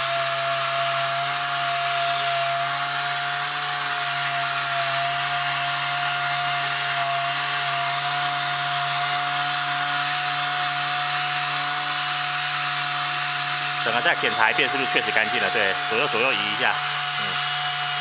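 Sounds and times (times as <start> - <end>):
pneumatic polisher whine: 0.0 - 18.0.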